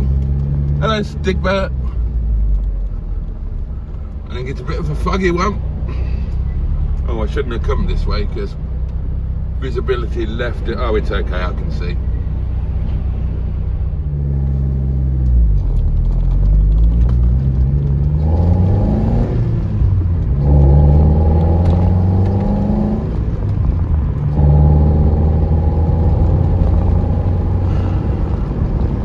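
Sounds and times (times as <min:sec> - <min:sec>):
car engine accelerating through gears: 0:00.0 - 0:29.0.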